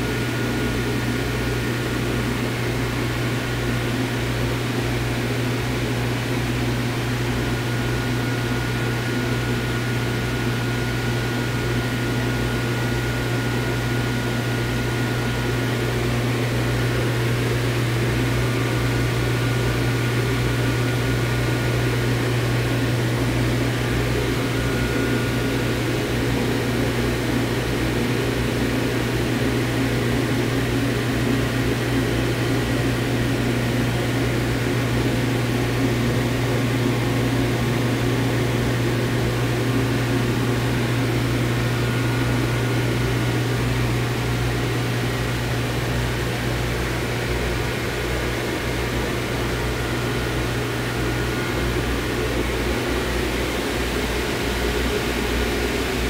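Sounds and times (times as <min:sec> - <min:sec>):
cooling fans whirring: 0:00.0 - 0:56.0.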